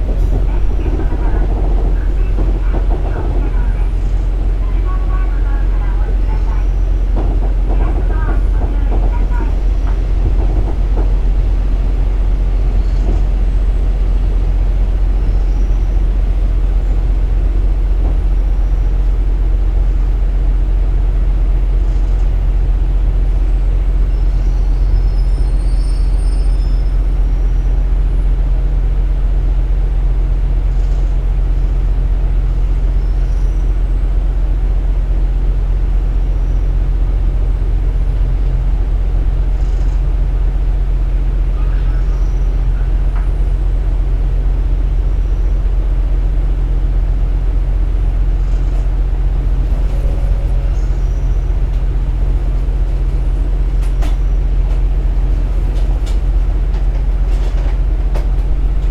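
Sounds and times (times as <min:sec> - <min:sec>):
diesel railcar hum: 0:00.0 - 0:58.9.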